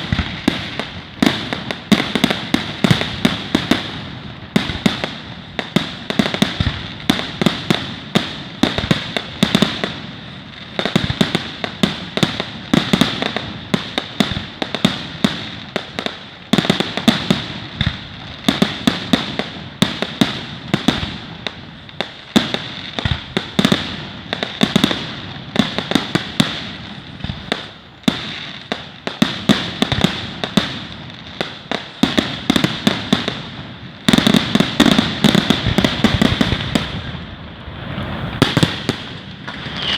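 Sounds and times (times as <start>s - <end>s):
fireworks bangs and pops: 0.0s - 39.9s.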